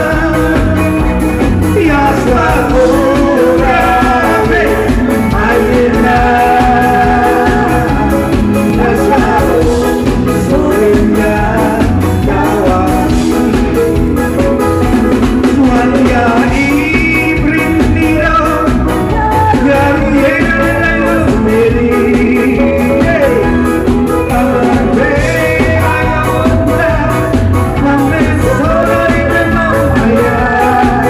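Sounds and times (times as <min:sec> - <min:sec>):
live band with steady beat: 0:00.0 - 0:31.0
man singing into microphone: 0:00.0 - 0:31.0.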